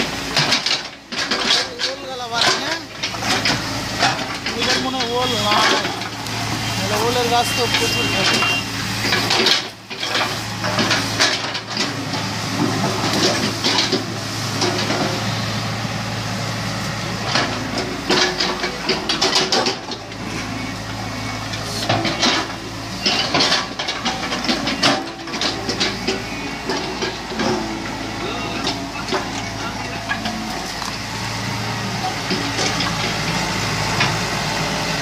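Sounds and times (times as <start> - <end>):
excavator engine humming: 0.0 - 35.0.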